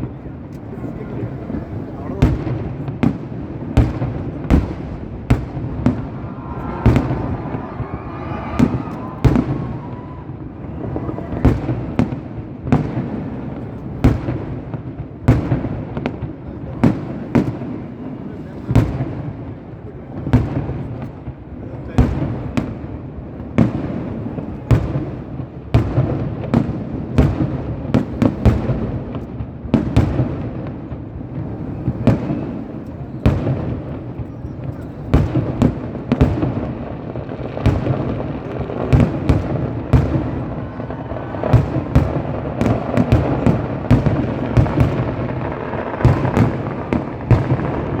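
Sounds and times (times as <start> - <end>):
fireworks bangs: 0.0 - 48.0
rumble of explosions: 0.1 - 48.0.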